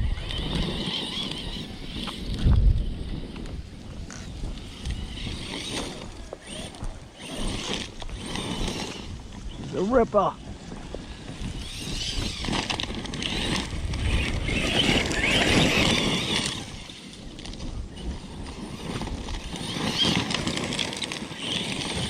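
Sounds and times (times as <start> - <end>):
rc car tyres scrabbling on dirt: 0.0 - 22.0.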